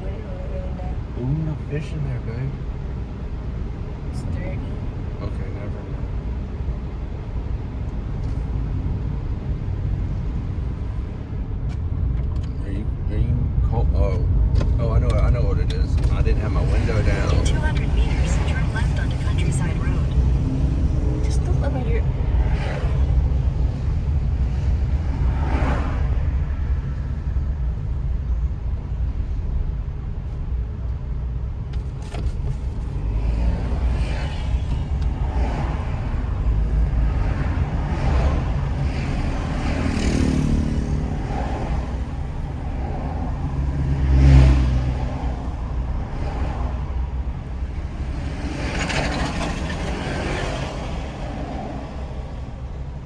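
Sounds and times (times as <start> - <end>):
car engine and tyre rumble: 0.0 - 53.0
traffic passing: 0.0 - 53.0.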